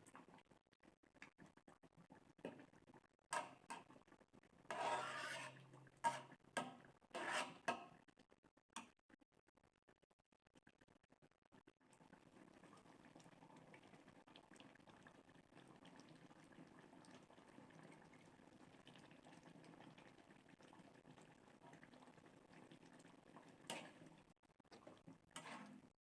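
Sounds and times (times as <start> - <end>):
food bubbling in a pan: 0.0 - 26.0.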